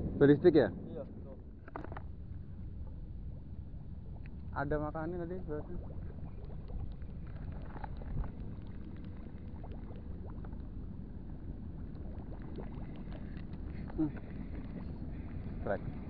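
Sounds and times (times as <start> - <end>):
steady low rumble: 0.0 - 16.0
water lapping: 1.4 - 16.0
small ticks and splashes: 1.6 - 16.0.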